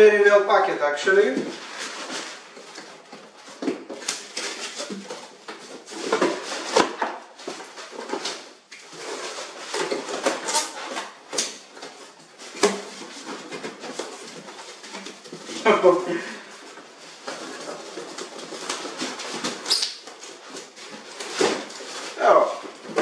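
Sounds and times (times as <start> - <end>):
rustling cardboard and packing: 1.1 - 23.0.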